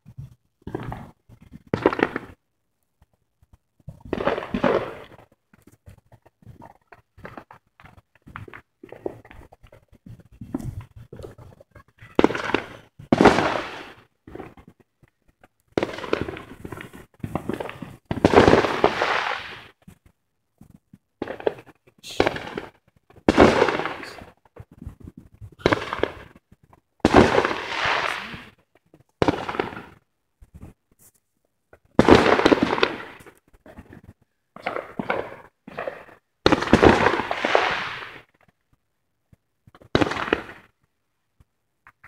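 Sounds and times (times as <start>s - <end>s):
fireworks bangs: 0.0s - 2.5s, 3.5s - 30.8s, 31.7s - 38.5s, 39.6s - 40.8s.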